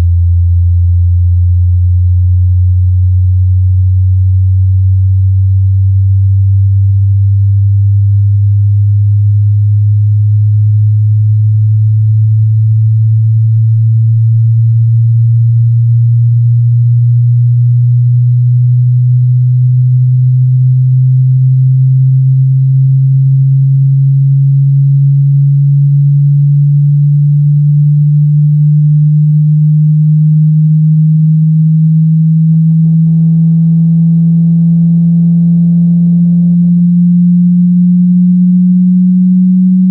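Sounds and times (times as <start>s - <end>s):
low sine tone gliding upward: 0.0s - 39.9s.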